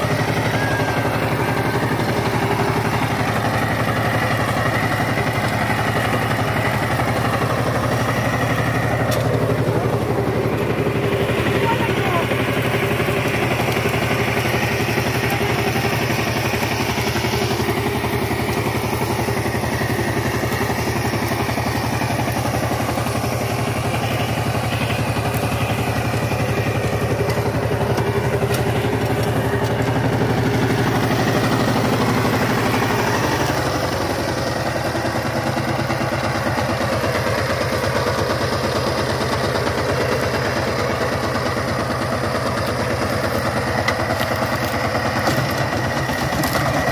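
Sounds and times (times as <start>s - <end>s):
diesel engine chugging: 0.0s - 46.9s.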